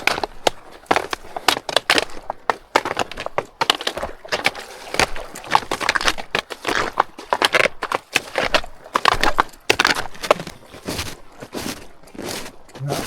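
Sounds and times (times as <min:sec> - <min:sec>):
snowshoe footsteps crunching snow: 0:00.0 - 0:13.0.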